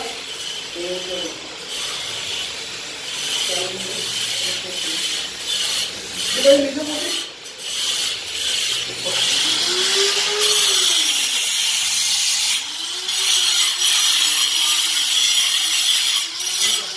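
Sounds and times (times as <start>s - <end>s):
tool scraping marble: 0.0s - 16.9s.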